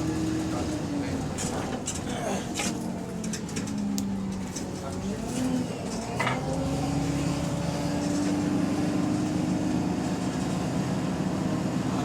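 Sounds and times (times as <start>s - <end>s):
bus engine pulling: 0.0s - 12.0s.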